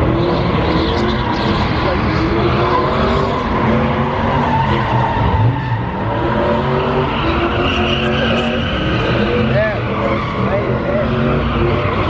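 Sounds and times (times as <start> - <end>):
car engines revving hard: 0.0 - 12.0
tires squealing: 0.0 - 12.0.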